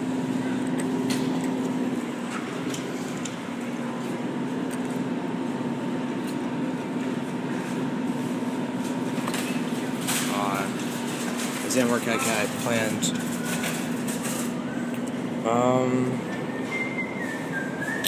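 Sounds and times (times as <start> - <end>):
claw crane machine hum: 0.0 - 18.0.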